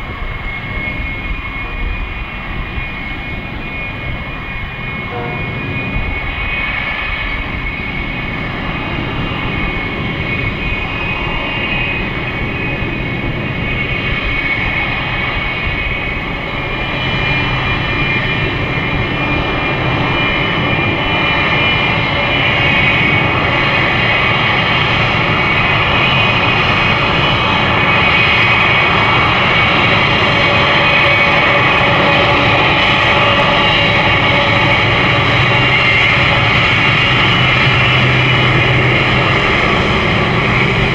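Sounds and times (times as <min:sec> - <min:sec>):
jet engines whining at taxi power: 0:00.0 - 0:40.9.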